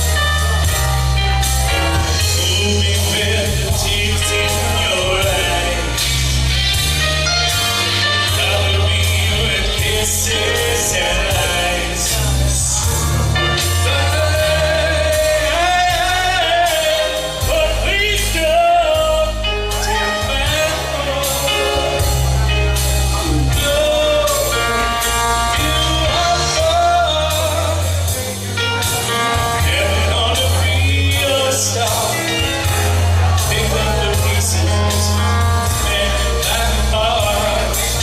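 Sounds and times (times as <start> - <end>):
heavy bass: 0.0 - 38.0
person singing: 0.0 - 38.0.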